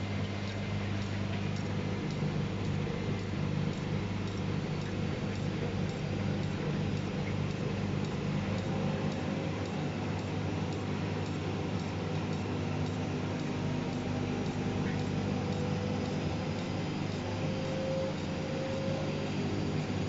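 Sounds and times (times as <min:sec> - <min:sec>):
washing machine motor humming: 0:00.0 - 0:20.0.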